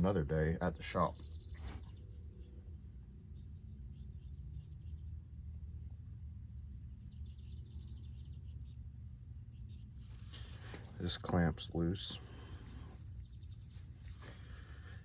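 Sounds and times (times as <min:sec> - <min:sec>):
birds chirping faintly: 0:00.0 - 0:15.0
low outdoor rumble: 0:00.0 - 0:15.0.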